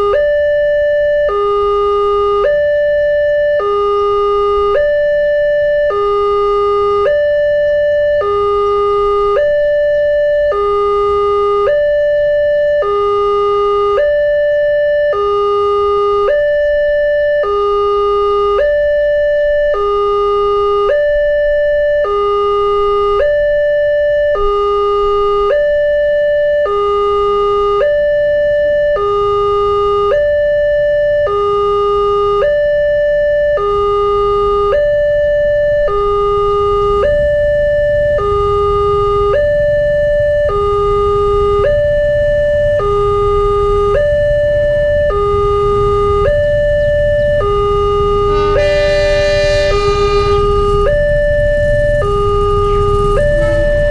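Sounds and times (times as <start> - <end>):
two-tone warning siren: 0.0 - 53.9.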